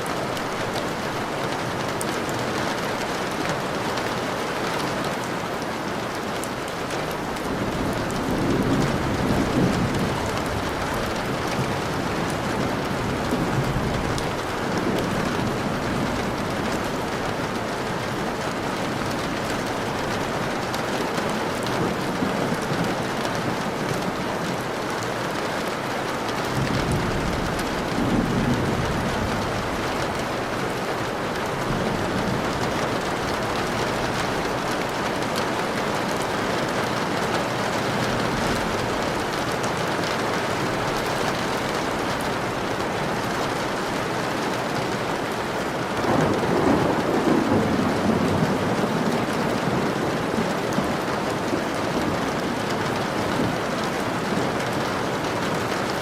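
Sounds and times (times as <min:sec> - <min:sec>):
heavy rain: 0:00.0 - 0:56.0
thunder rumbling: 0:06.0 - 0:25.4, 0:26.1 - 0:45.2, 0:46.0 - 0:53.7.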